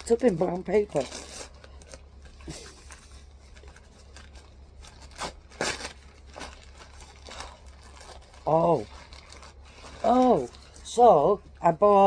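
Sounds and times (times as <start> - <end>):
paper rustling and tearing: 0.0 - 11.2.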